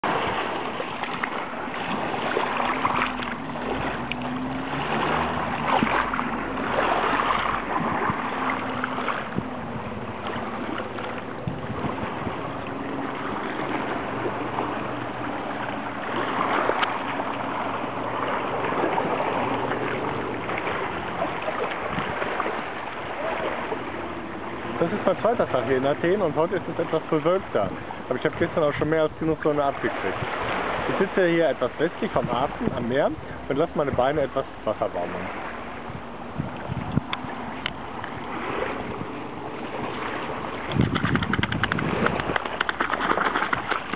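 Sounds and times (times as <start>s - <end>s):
small waves splashing on rocks: 0.0s - 35.6s, 36.2s - 43.9s.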